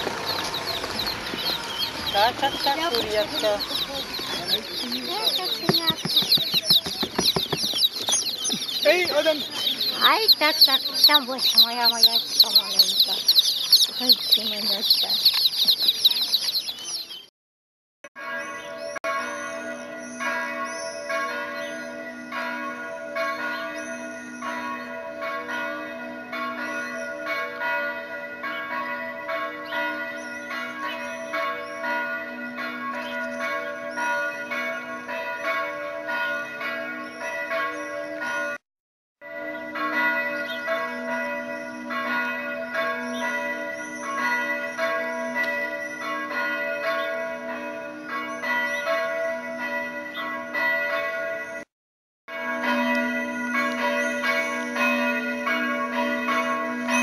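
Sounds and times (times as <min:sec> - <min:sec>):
church bells pealing: 0:00.0 - 0:16.6, 0:18.2 - 0:38.6, 0:39.2 - 0:51.7, 0:52.3 - 0:57.0.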